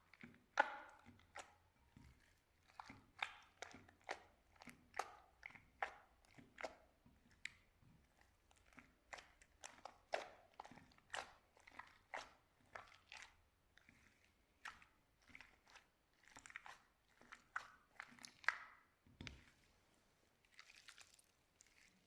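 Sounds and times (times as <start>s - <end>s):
slime squished by hand: 0.1s - 19.6s.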